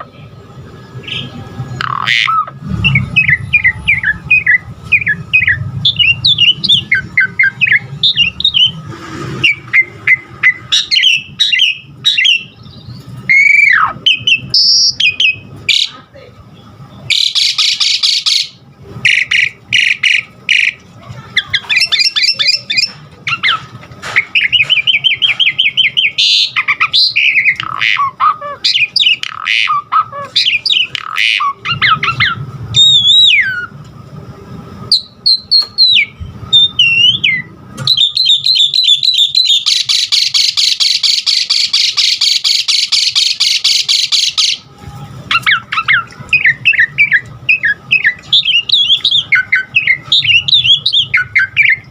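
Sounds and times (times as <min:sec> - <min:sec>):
starling singing: 0:00.9 - 0:33.8, 0:34.8 - 0:51.9.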